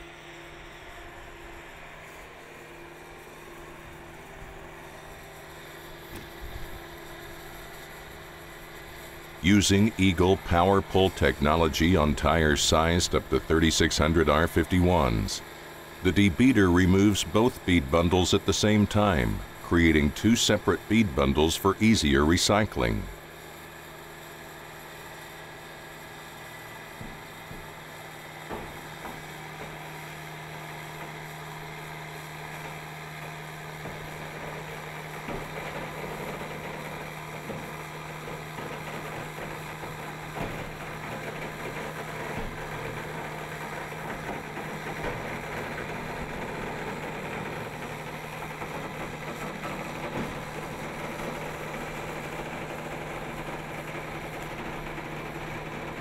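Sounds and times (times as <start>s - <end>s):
machine hum: 2.0s - 23.8s, 24.4s - 56.0s.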